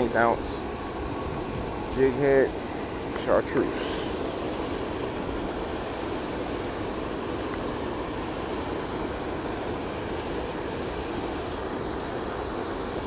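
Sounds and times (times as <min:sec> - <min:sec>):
water rushing over spillway: 0:00.0 - 0:13.0.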